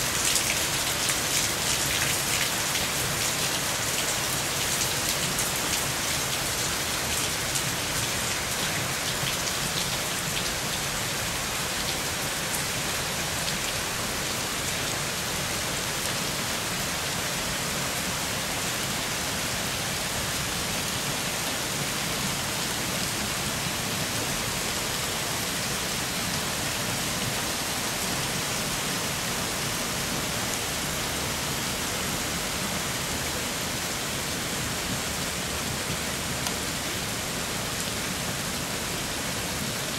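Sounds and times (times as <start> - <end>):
heavy rain: 0.0 - 39.9
water rushing down a street: 0.0 - 39.9.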